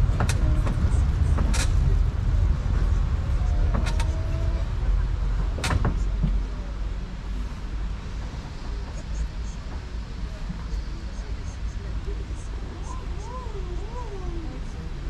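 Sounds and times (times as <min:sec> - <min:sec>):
road train rumbling: 0:00.0 - 0:15.0.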